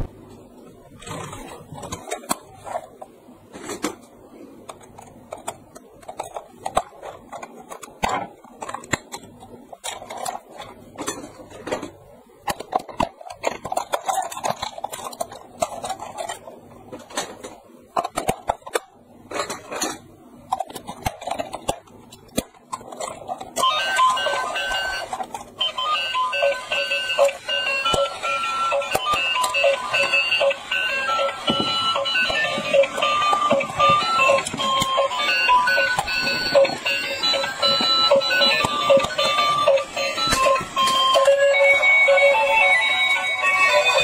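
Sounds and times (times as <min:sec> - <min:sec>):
plastic toy clicking and clattering: 0:01.0 - 0:04.1, 0:04.7 - 0:44.0.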